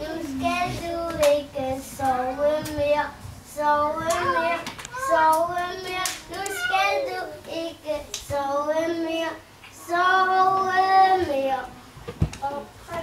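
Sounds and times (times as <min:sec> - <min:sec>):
children singing: 0:00.0 - 0:03.0, 0:03.6 - 0:11.7.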